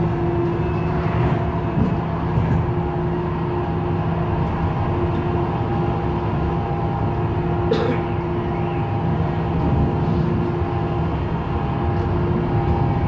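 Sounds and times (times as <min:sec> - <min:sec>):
tram motor hum: 0:00.0 - 0:13.0
tram wheels rumbling on rails: 0:00.0 - 0:13.0.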